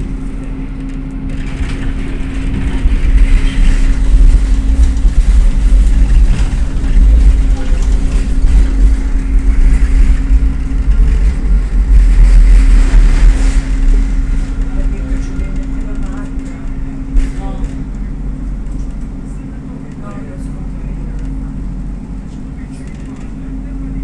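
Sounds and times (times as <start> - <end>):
steady hum: 0.0 - 24.0
tram wheels rumbling on rails: 0.0 - 24.0.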